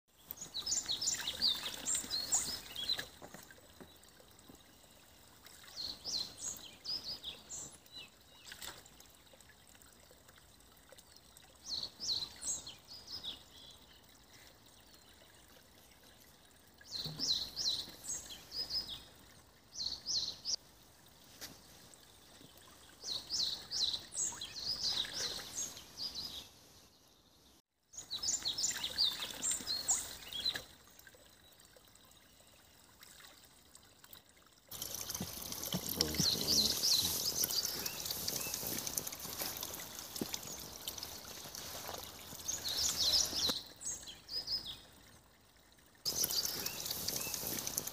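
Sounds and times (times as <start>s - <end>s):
songbirds singing: 0.1s - 9.5s, 11.2s - 20.6s, 22.0s - 32.6s, 34.8s - 45.0s, 46.0s - 47.9s
stream murmuring: 0.2s - 26.5s, 28.0s - 47.9s.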